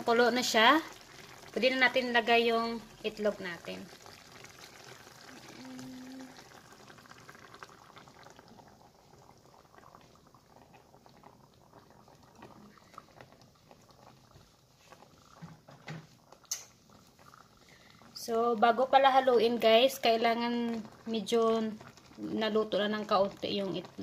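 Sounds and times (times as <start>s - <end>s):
sauce bubbling in a pan: 0.0s - 24.0s.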